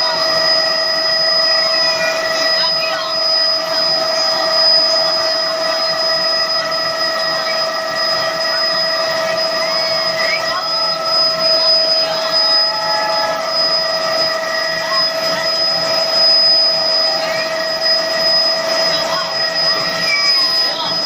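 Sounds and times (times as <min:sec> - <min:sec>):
helicopter in flight: 0:00.0 - 0:21.0.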